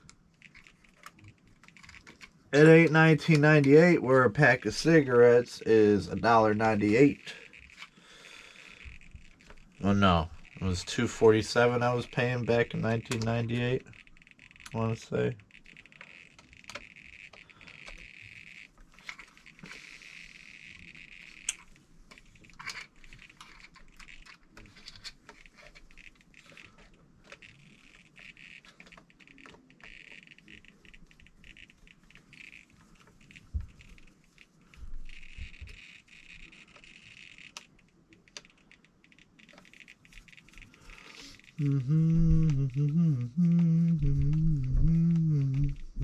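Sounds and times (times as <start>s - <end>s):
small parts and tools clicking: 0.0s - 4.0s, 6.3s - 46.0s.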